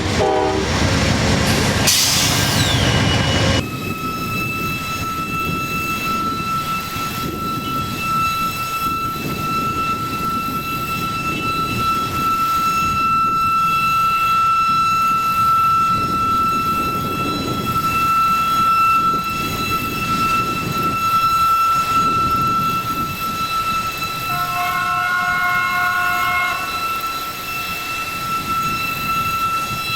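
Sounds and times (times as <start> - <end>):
train rolling past: 0.0 - 29.9
high-pitched squeal: 0.2 - 29.9.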